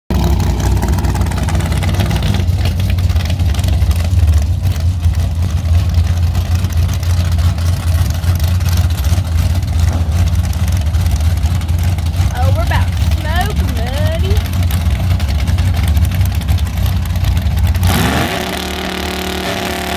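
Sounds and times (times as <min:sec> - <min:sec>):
car engine idling: 0:00.1 - 0:19.9.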